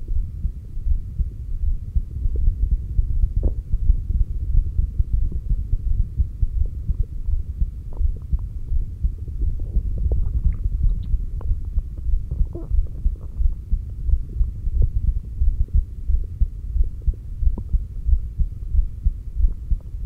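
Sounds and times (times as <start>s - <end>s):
heartbeat through stethoscope: 0.0s - 20.0s.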